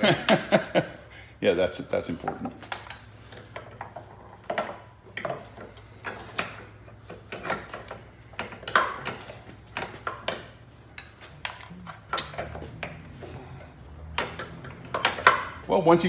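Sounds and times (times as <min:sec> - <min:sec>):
metal clicks and knocks: 0:02.2 - 0:15.7.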